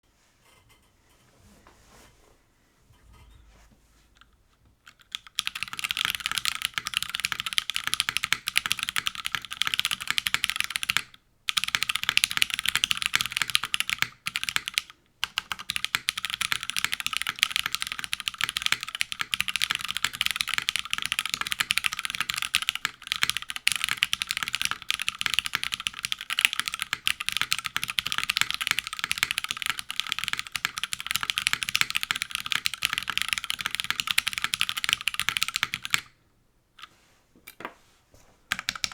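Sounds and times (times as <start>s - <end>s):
mechanical keyboard typing: 4.8s - 36.1s, 38.5s - 38.9s.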